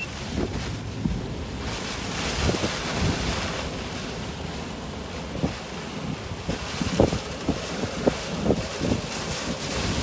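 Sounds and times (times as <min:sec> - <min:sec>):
storm wind and water rushing: 0:00.0 - 0:10.0.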